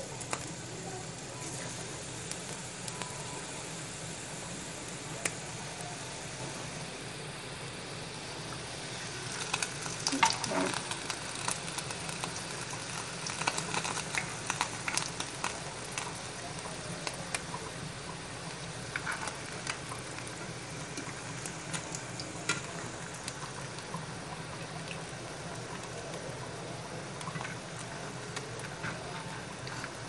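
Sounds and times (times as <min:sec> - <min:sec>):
frying sizzle with pops: 0:00.0 - 0:30.0.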